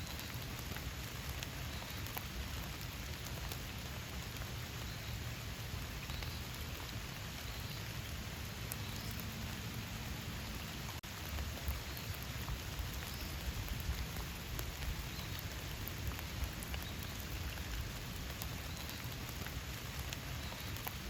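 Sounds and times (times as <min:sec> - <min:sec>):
rain in a forest: 0:00.0 - 0:21.0
raindrops ticking close by: 0:00.0 - 0:21.0.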